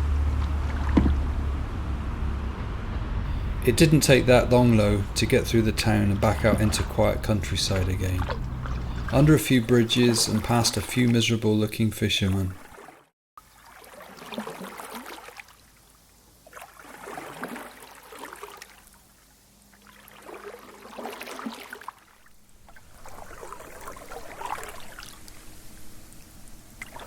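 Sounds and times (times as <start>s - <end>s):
paddles dipping in water: 0.0s - 1.8s, 3.3s - 27.0s
water splashing and dripping: 0.0s - 1.8s, 3.3s - 19.1s, 19.7s - 27.0s.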